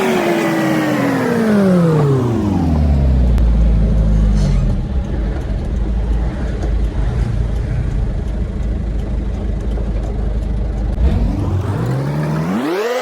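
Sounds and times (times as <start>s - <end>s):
truck engine rumbling: 0.0s - 12.7s.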